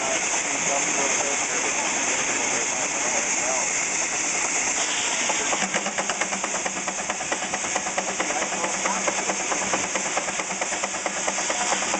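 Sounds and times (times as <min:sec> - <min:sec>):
steam engine clatter: 0:00.0 - 0:11.9
steam hiss: 0:00.0 - 0:11.9.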